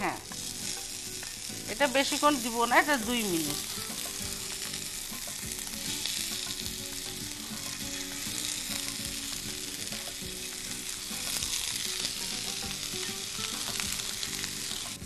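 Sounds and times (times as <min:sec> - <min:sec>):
oil sizzling in frying pan: 0:00.0 - 0:15.0.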